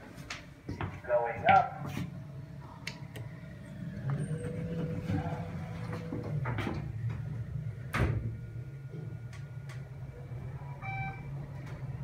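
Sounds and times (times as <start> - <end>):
elevator humming in motion: 0.0 - 12.0.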